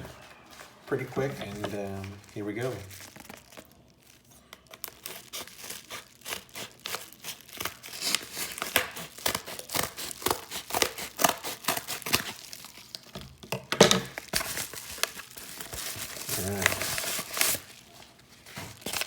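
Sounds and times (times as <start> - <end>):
packaging crinkling and tearing: 0.2 - 19.0.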